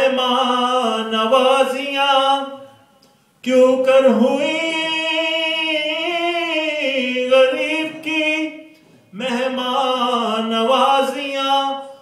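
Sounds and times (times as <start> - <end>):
man singing into a microphone: 0.0 - 2.7, 3.4 - 12.0.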